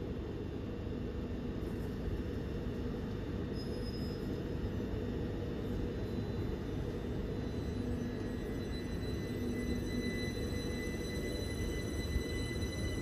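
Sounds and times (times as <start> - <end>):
faint high whine: 0.0 - 13.0
train equipment humming: 0.0 - 13.0.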